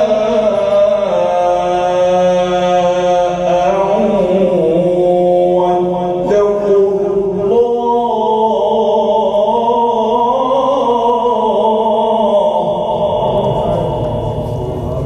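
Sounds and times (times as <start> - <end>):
low noisy background: 0.0 - 15.0
person chanting melodic recitation: 0.0 - 15.0.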